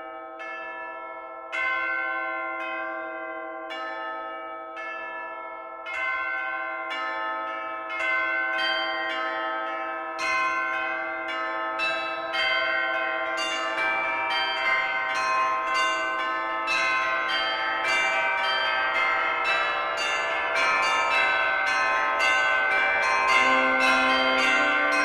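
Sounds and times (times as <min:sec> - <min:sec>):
church bells ringing in a peal: 0:00.0 - 0:25.0.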